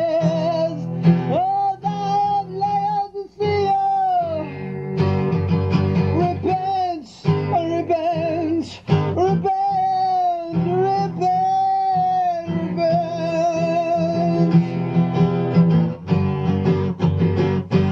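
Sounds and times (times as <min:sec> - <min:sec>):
acoustic guitar: 0:00.0 - 0:17.9.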